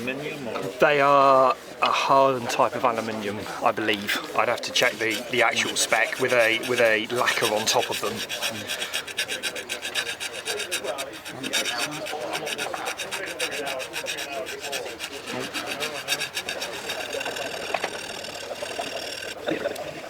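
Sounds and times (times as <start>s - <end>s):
file rasping on metal blade: 1.7s - 19.4s.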